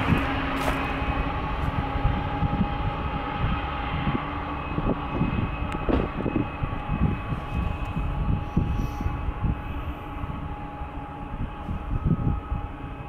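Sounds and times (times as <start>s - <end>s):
faint whine: 0.0s - 13.0s
train rumble: 0.0s - 13.0s.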